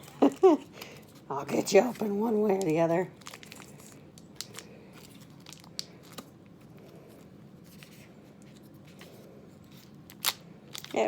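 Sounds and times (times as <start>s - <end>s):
wrapper crinkling and tearing: 0.0s - 6.6s, 7.7s - 11.0s.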